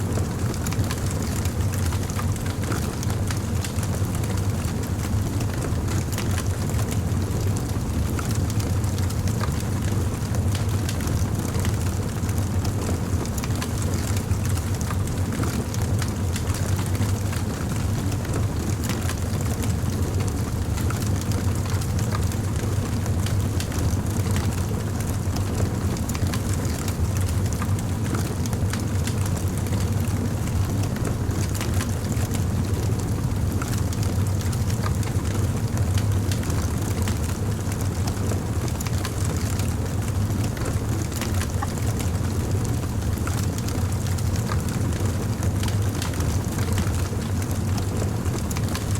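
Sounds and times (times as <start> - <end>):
fire crackling and popping: 0.1 - 48.9.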